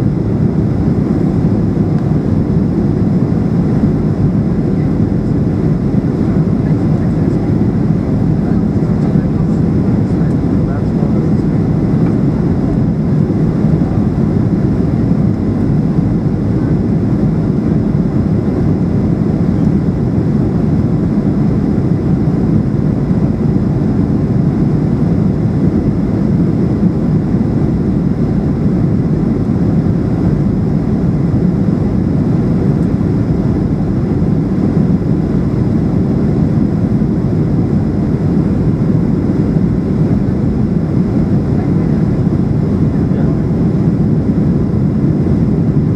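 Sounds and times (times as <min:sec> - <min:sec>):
faint high whine: 0:00.0 - 0:45.9
jet engines humming: 0:00.0 - 0:45.9.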